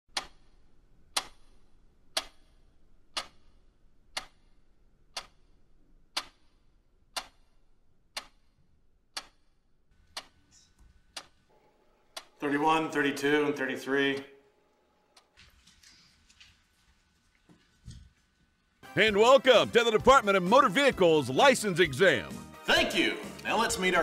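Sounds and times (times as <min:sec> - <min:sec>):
wall clock ticking: 0:00.1 - 0:11.5, 0:12.1 - 0:15.4, 0:18.9 - 0:24.0.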